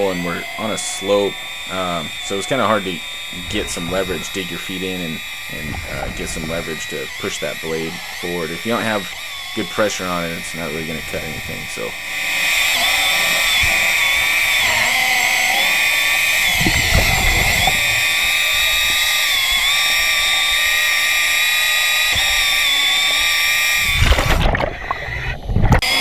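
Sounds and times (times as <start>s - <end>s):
low rumbling bursts: 0.0s - 20.9s
underwater chainsaw whine: 0.0s - 26.0s.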